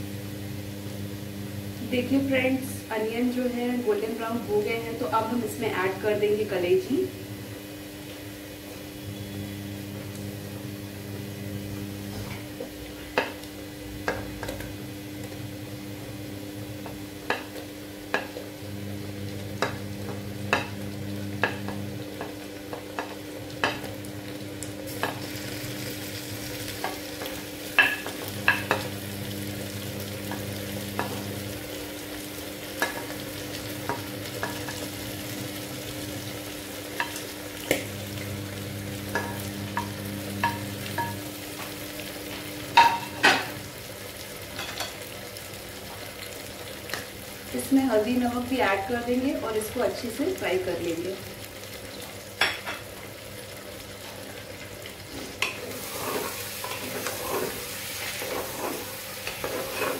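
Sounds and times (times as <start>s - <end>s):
frying sizzle in oil: 0.0s - 59.9s.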